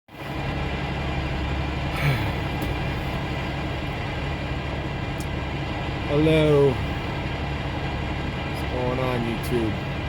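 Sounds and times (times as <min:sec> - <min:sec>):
diesel engine idling: 0:00.1 - 0:10.0.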